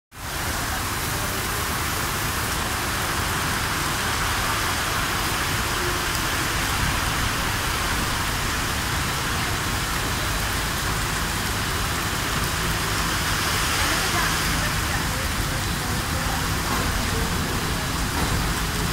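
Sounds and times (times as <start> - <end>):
heavy rain on roof canopy: 0.1 - 18.9.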